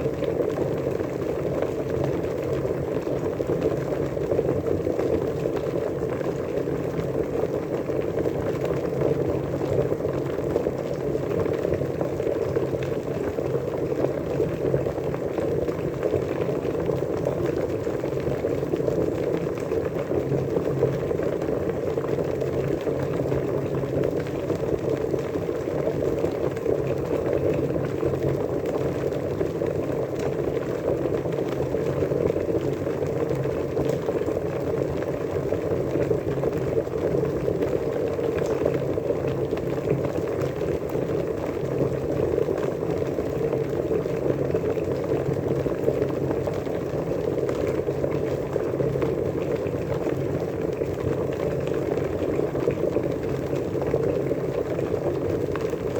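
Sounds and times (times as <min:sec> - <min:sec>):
water boiling: 0:00.0 - 0:55.9.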